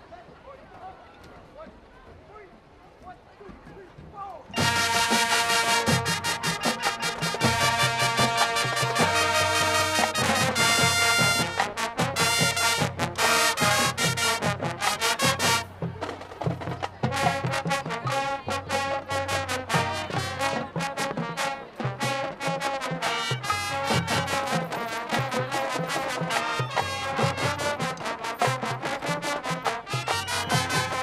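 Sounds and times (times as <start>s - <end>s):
marching band brass: 4.5s - 31.0s.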